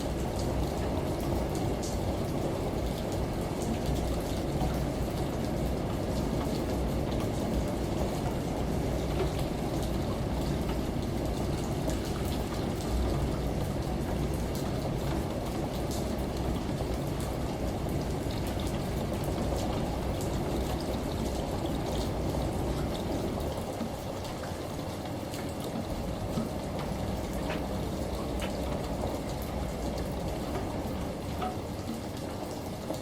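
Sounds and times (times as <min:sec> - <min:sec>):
falling water: 0:00.0 - 0:33.0
water drips ticking: 0:00.0 - 0:33.0.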